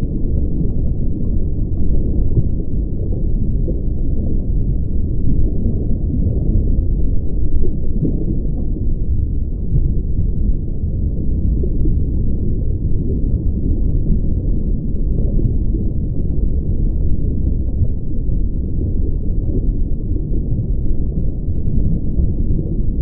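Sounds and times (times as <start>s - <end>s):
muffled ocean rumble: 0.0s - 23.0s.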